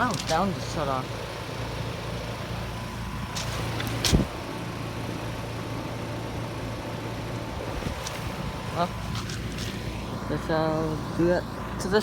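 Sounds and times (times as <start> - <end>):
heat pump unit humming: 0.0 - 12.0.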